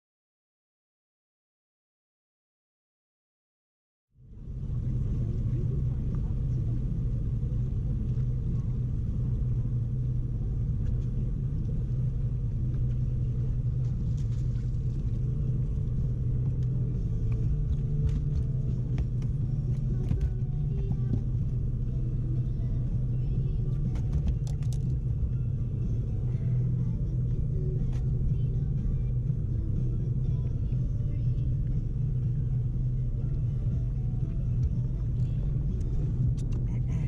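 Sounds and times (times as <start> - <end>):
boat motor running: 4.2 - 37.0.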